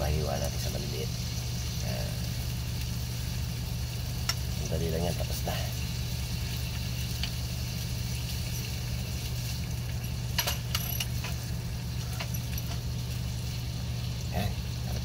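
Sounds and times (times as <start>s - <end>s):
steady low hum: 0.0s - 15.0s
steak sizzling in frying pan: 0.0s - 15.0s.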